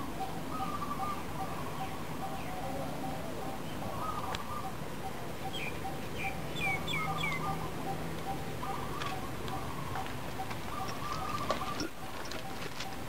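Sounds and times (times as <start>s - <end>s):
birds chirping: 0.0s - 13.0s
steady background noise: 0.0s - 13.0s.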